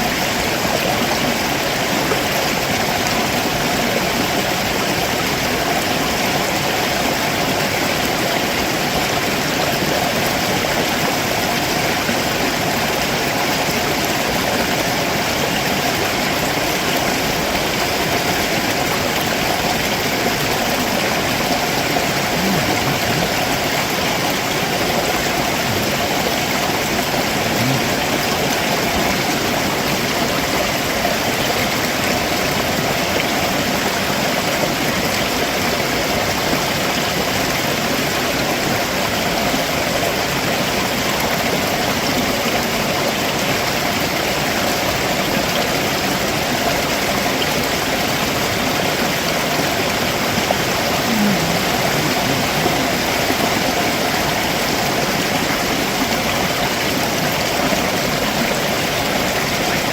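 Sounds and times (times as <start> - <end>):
water running over rocks: 0.0 - 59.9.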